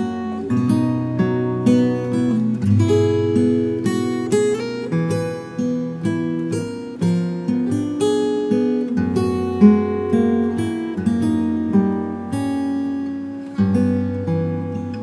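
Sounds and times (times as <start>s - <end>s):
acoustic guitar playing slowly: 0.0s - 15.0s.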